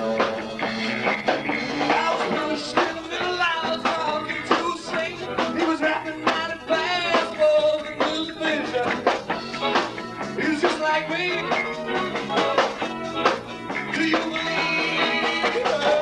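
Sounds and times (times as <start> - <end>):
person singing: 0.0 - 13.1, 13.7 - 16.0
bass guitar: 0.0 - 16.0
drums: 0.0 - 16.0
guitar: 0.0 - 16.0.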